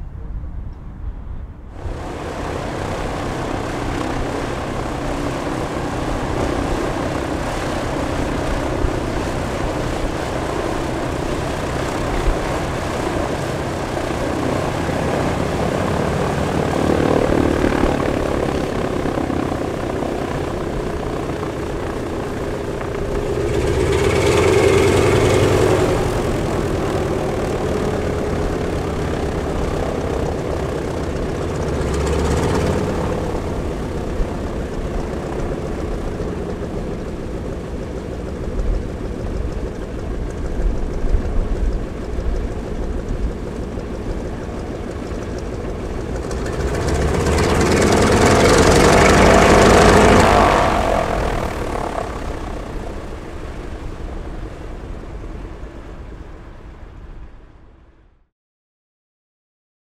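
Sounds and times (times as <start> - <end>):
propeller plane engines droning: 0.0 - 57.6.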